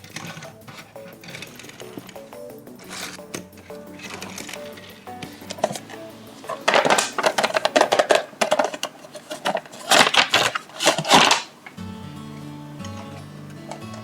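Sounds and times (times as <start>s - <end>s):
toy packaging crackling: 0.0s - 11.8s
background music: 0.0s - 14.0s.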